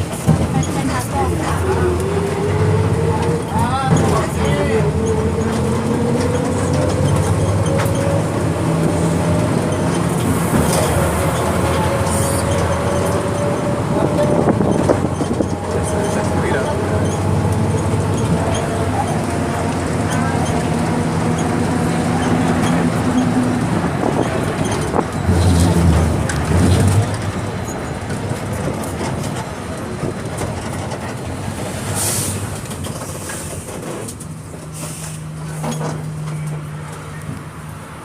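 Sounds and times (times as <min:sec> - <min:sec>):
bus diesel engine droning: 0:00.0 - 0:38.0
rattling road noise: 0:00.0 - 0:38.0.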